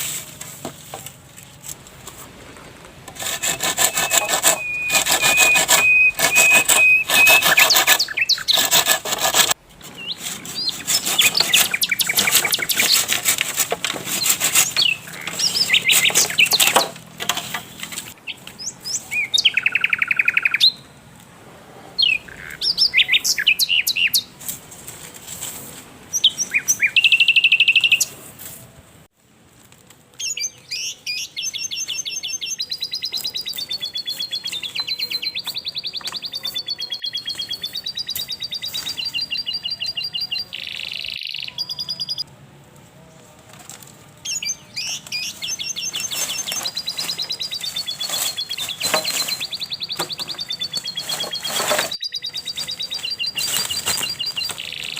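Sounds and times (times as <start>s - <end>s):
birds chirping and trilling: 2.5s - 21.0s, 21.9s - 24.4s, 26.1s - 28.2s, 30.2s - 42.3s, 44.2s - 54.9s.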